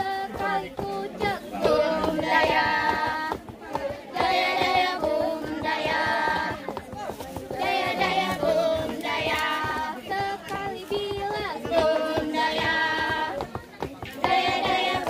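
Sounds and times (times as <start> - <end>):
girls chanting in unison: 0.0 - 6.6, 7.6 - 13.4, 14.2 - 15.0.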